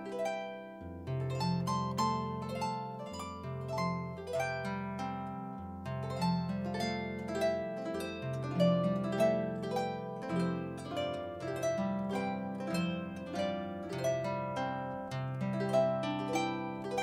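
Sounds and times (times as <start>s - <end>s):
harp playing: 0.0s - 17.0s.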